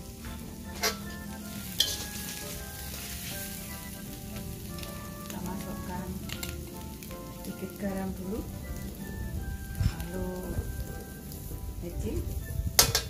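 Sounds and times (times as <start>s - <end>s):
greens sizzling in a wok: 0.0s - 13.0s
quiet background music: 0.0s - 13.0s.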